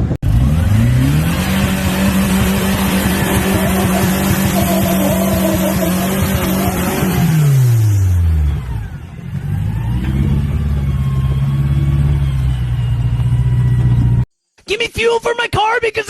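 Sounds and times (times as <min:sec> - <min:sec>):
off-road vehicle engine revving: 0:00.0 - 0:14.2.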